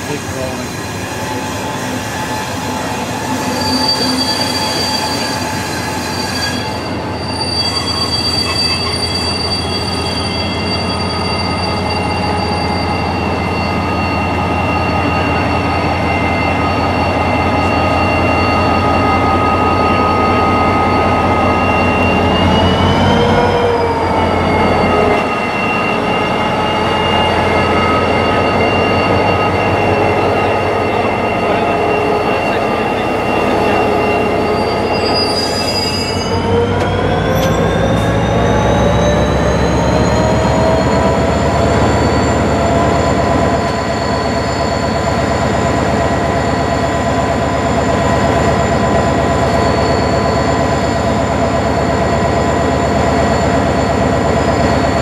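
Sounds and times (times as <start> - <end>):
diesel locomotive engine throbbing: 0.0 - 55.0
train wheels squealing: 0.0 - 55.0.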